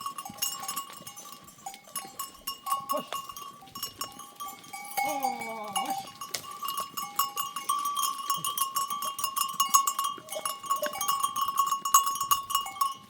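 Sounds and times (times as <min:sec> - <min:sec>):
goat bells clanking and ringing: 0:00.0 - 0:13.0.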